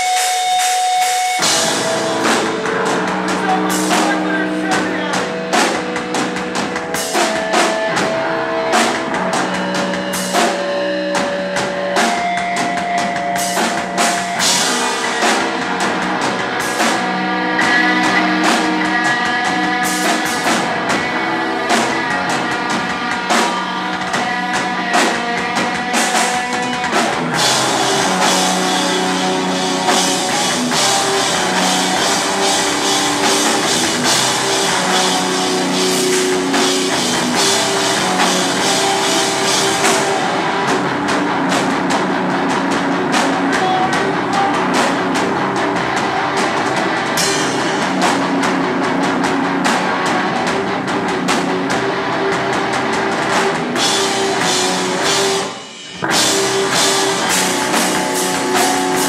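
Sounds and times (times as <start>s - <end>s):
live punk band playing: 0.0s - 59.0s.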